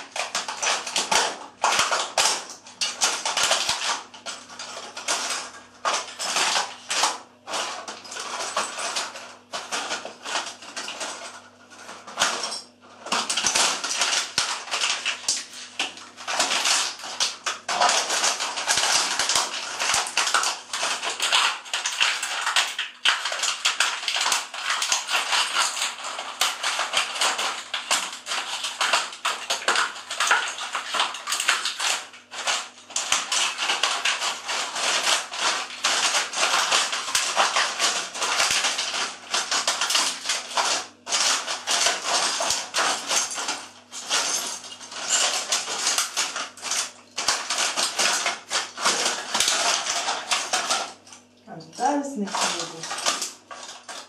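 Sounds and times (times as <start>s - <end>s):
plastic crackling and snapping: 0.0s - 54.0s.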